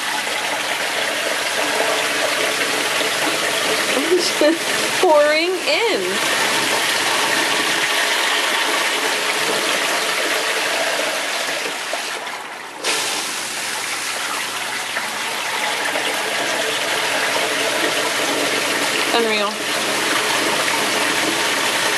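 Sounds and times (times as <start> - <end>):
sump pump running: 0.0 - 21.9
water gushing into a pit: 0.0 - 21.9.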